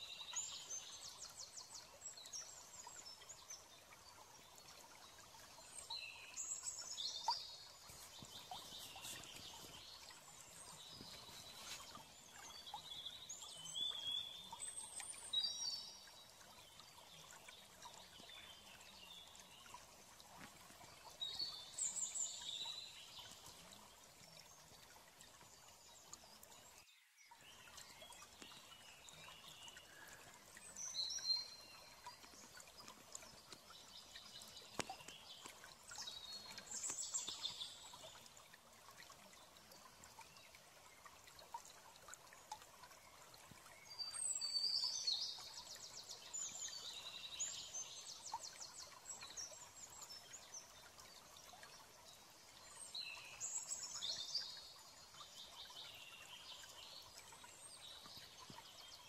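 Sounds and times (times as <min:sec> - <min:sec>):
faint water trickle: 0:00.0 - 0:59.0.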